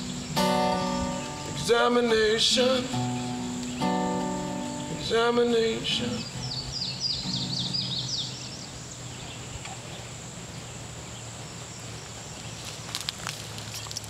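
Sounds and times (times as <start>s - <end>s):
bird chirping: 0.0s - 12.8s.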